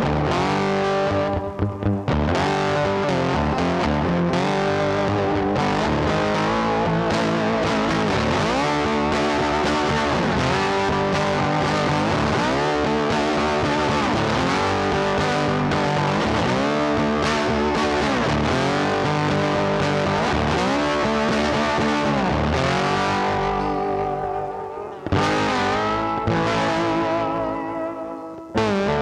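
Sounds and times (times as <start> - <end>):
rock music with electric guitar: 0.0 - 29.0.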